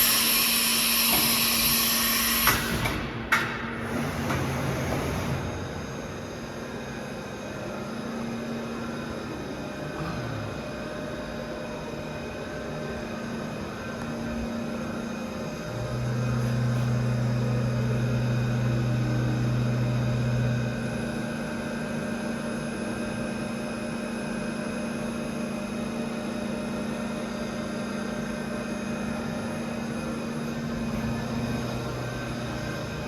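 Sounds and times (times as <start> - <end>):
machine motor hum and whine: 0.0 - 33.0.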